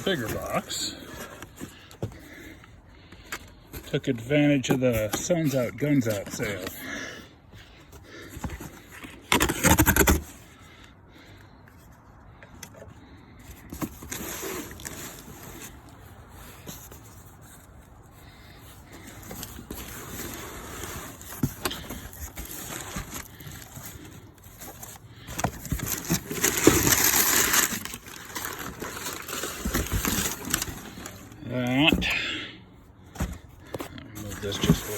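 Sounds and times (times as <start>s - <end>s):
cardboard and packing material rustling: 0.0s - 7.0s, 7.9s - 10.8s, 12.6s - 34.9s.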